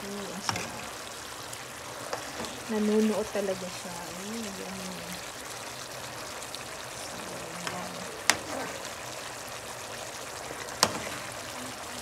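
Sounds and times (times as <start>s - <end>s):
sauce bubbling and sizzling: 0.0s - 12.0s.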